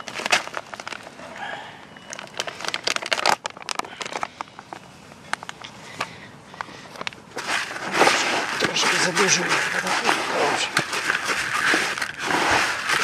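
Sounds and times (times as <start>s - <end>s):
plastic pouch crinkling: 0.0s - 1.2s, 2.0s - 5.7s, 6.6s - 13.0s
gritty rustling and clicks: 2.0s - 13.0s.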